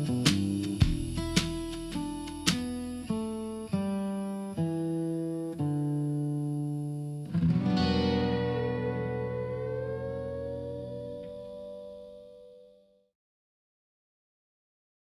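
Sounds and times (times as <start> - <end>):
plucked guitar notes: 0.0 - 12.9
guitar chord ringing: 0.0 - 13.0.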